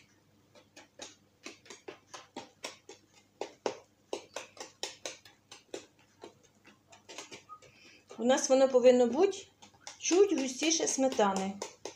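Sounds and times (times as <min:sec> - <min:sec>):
spoon stirring thick batter: 0:00.0 - 0:11.9.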